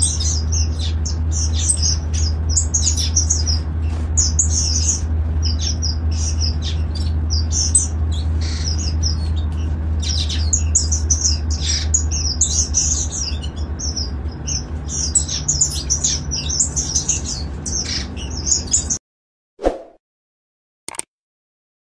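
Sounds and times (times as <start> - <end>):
finches chirping: 0.0 - 19.0
steady low hum: 0.0 - 19.0.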